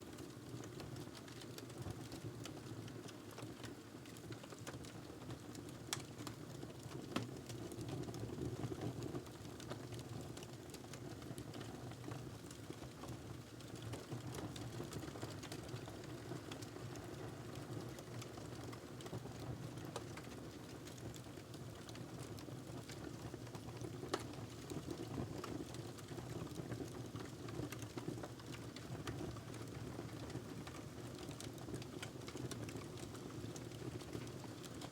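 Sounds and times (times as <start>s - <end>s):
fire crackling and popping: 0.1s - 34.9s.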